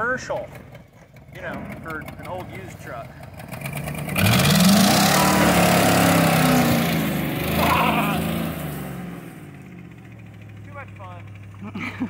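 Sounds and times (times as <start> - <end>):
pickup truck engine revving: 0.0 - 12.0.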